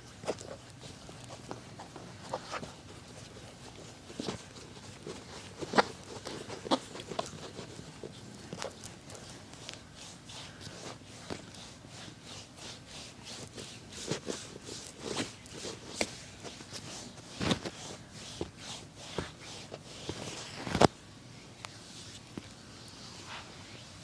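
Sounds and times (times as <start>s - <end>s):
soft rubbing: 0.0s - 24.0s.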